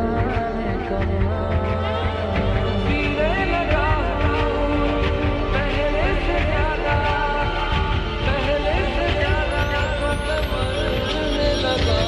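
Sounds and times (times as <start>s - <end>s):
instrumental song with bass: 0.0s - 12.0s.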